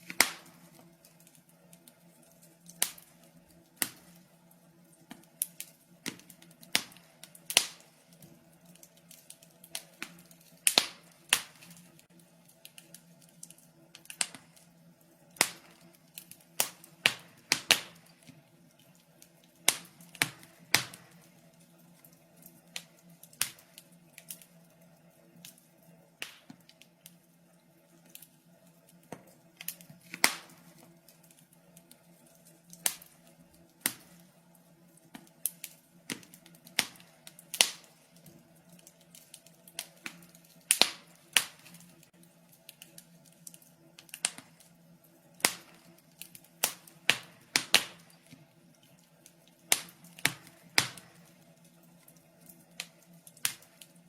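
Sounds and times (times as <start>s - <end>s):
faint steady low hum: 0.0s - 54.0s
wood fire crackling: 0.0s - 54.0s.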